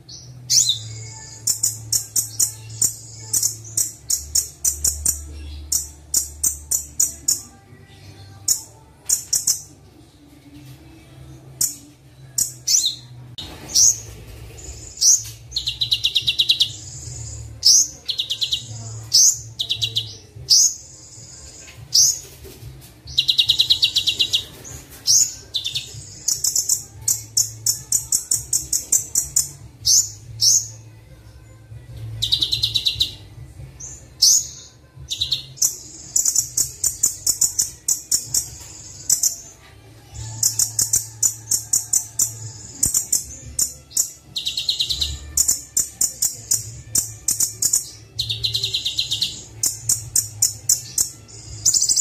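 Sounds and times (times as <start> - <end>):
songbird chirps and trills: 0.0 - 52.0.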